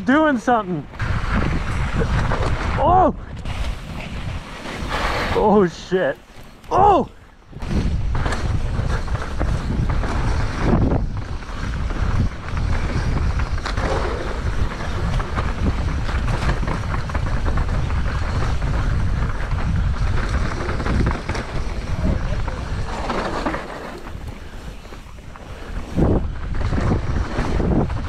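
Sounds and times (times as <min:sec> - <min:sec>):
rattles and crackles: 0:00.8 - 0:28.0
wind buffeting microphone: 0:00.8 - 0:28.0.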